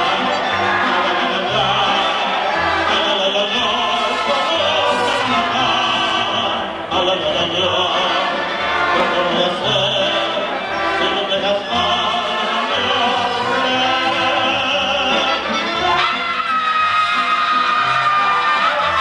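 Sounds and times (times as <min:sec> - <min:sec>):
man singing: 0:00.0 - 0:19.0
mariachi guitars: 0:00.0 - 0:19.0.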